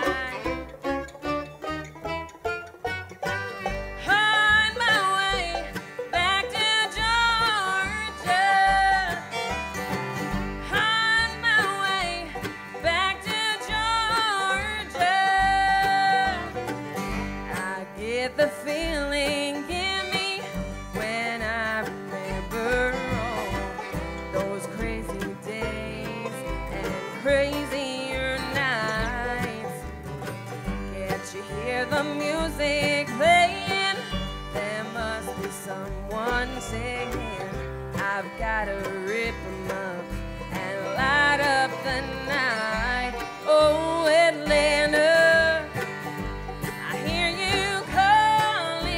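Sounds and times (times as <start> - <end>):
acoustic bluegrass band playing: 0.0 - 48.9.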